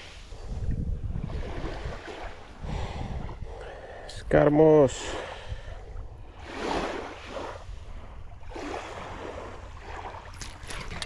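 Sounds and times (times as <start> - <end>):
small waves washing ashore: 0.0 - 11.0
wind rumble on microphone: 0.0 - 11.0.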